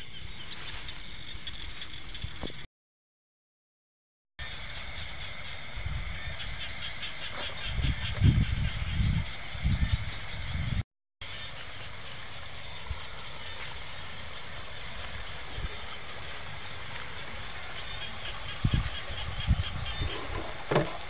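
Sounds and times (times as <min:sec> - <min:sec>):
frogs and insects calling: 0:00.0 - 0:02.6, 0:04.4 - 0:21.0.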